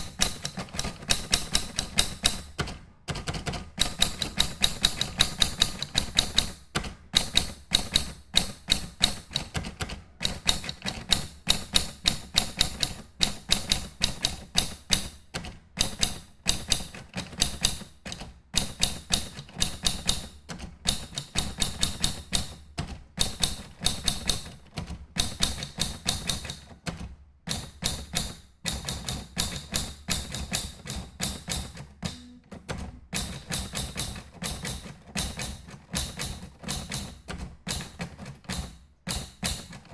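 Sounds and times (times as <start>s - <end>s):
typewriter key strikes: 0.0s - 39.9s.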